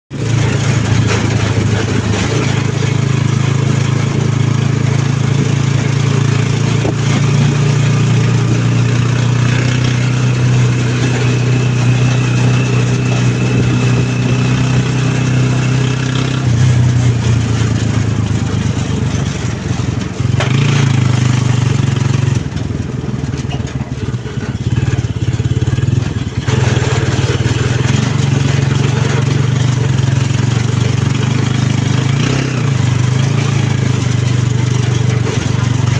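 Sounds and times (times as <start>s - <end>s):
engine droning: 0.1s - 35.9s.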